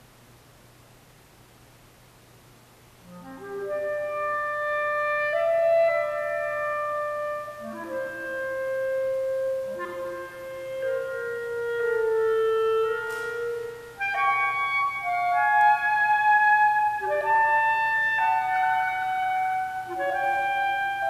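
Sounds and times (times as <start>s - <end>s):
solo clarinet: 3.0s - 21.0s.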